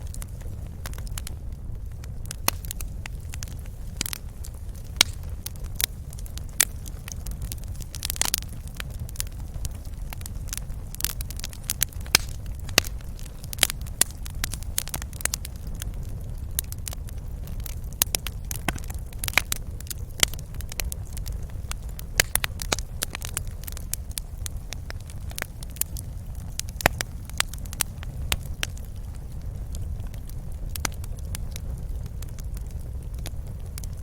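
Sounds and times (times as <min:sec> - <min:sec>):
low rumble of burning: 0:00.0 - 0:34.0
wood fire crackling and popping: 0:00.0 - 0:34.0.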